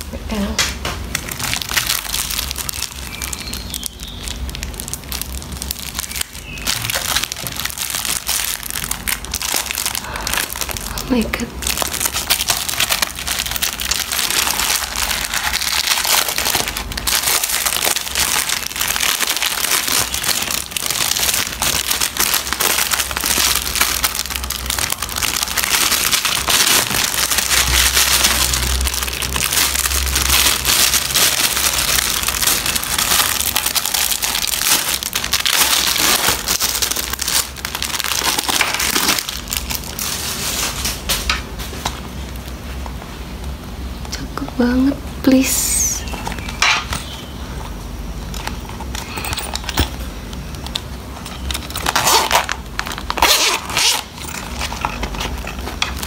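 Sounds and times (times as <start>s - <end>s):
plastic wrapping crinkling: 0.0s - 43.7s, 45.7s - 56.0s.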